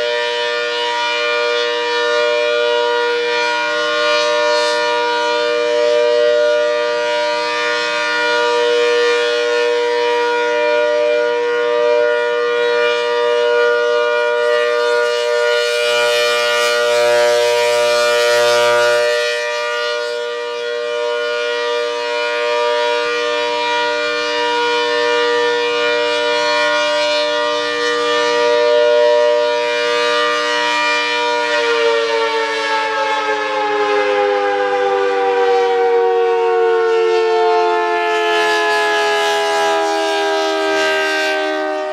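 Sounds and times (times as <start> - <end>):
tornado siren chord: 0.0 - 41.9.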